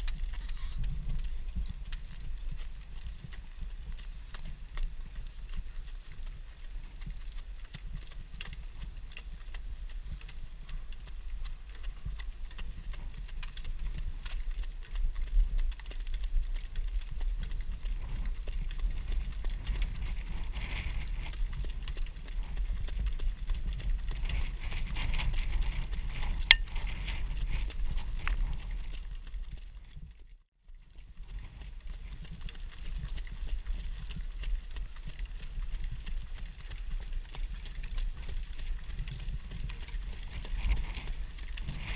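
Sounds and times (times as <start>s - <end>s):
horse hooves on dirt: 0.0s - 41.9s
wind rumble on microphone: 0.0s - 41.9s.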